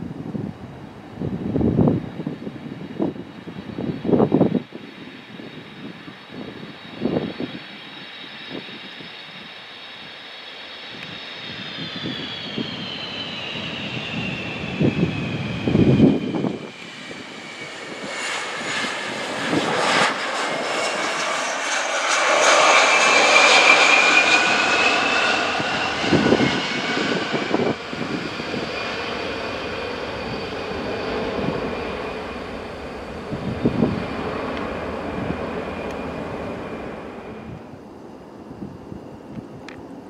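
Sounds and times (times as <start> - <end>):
jet engines passing: 0.0 - 40.0.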